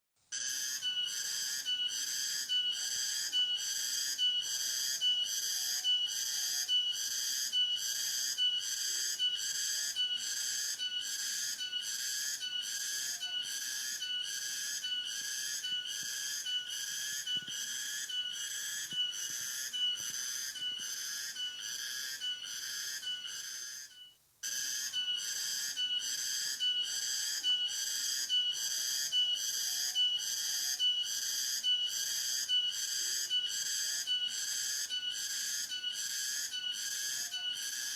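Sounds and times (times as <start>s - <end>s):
pulsing high-pitched whistle: 0.4s - 37.9s.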